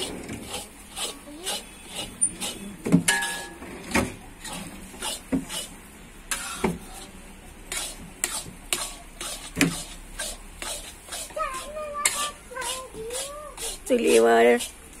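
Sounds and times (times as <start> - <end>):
metal ladle scraping metal pan: 0.0 - 14.8.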